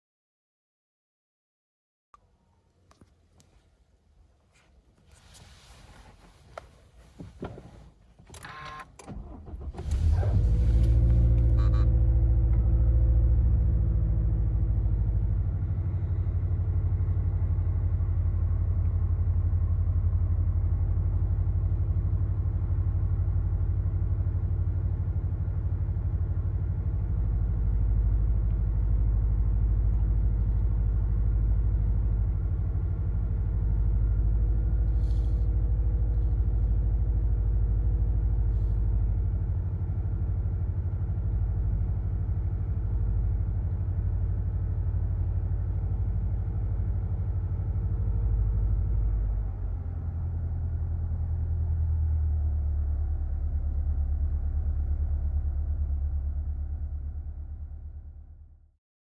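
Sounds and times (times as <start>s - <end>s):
car engine idling with deep burble: 5.0s - 57.8s.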